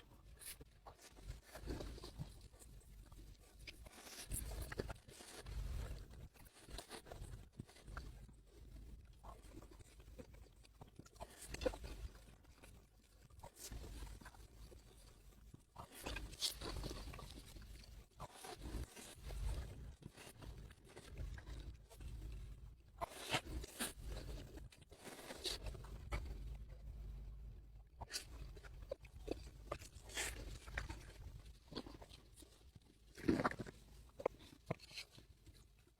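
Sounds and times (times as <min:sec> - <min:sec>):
chewing crunchy food: 0:00.0 - 0:35.9.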